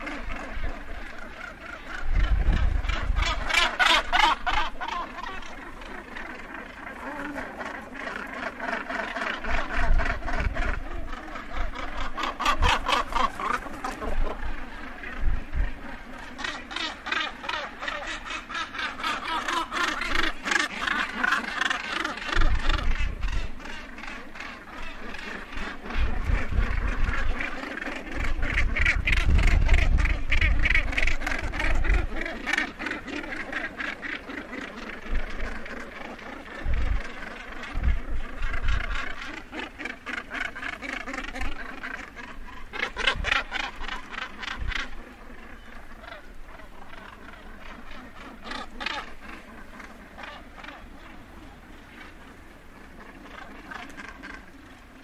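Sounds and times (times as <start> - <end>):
seabirds rattling calls: 0.0 - 55.0.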